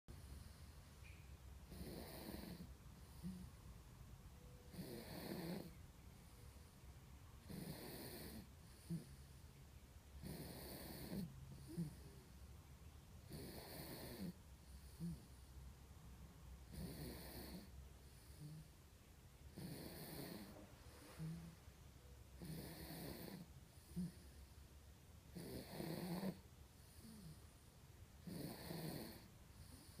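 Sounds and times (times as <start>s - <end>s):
baby snoring quietly: 0.1s - 0.9s, 1.6s - 3.8s, 4.4s - 9.5s, 10.1s - 12.4s, 13.2s - 15.6s, 16.6s - 24.7s, 25.3s - 30.0s.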